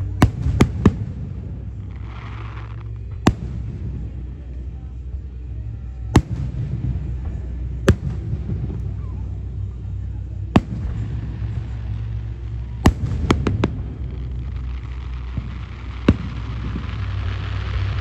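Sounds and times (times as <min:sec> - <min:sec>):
fireworks cracks: 0:00.0 - 0:04.9, 0:06.2 - 0:18.0
fireworks booming: 0:00.0 - 0:05.0, 0:06.0 - 0:18.0
low rumble: 0:00.0 - 0:18.0.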